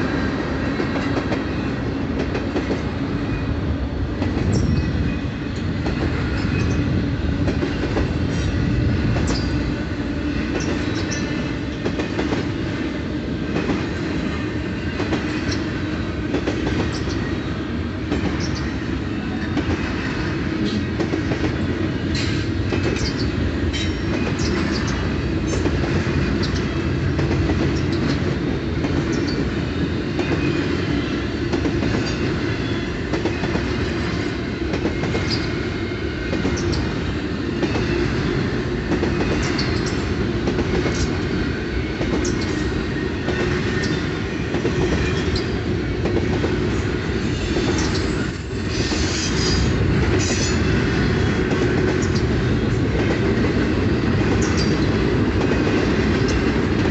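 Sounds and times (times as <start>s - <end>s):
steel wheels rumbling on rail: 0.0s - 56.9s.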